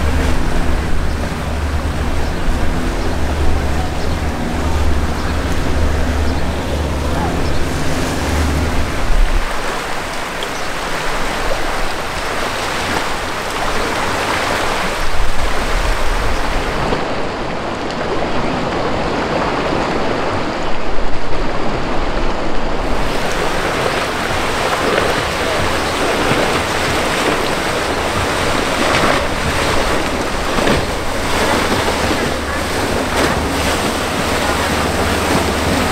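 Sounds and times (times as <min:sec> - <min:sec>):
turbulent water churning: 0:00.0 - 0:35.9
wind buffeting the microphone: 0:00.0 - 0:35.9.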